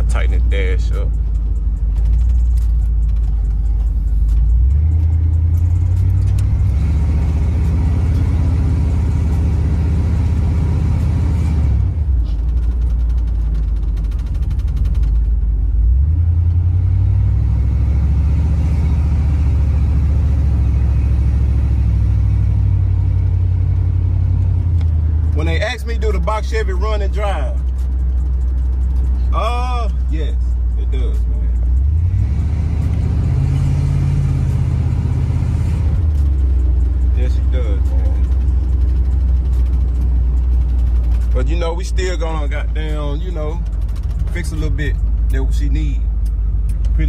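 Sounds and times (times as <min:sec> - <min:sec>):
car engine and road rumble: 0:00.0 - 0:47.0.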